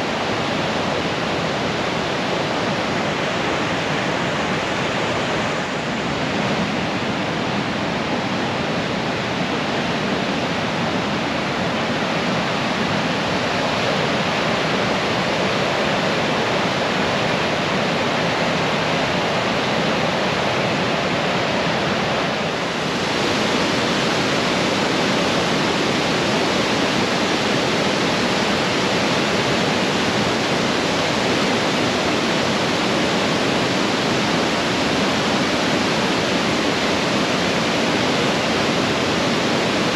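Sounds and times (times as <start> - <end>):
river rapids rushing: 0.0 - 39.9.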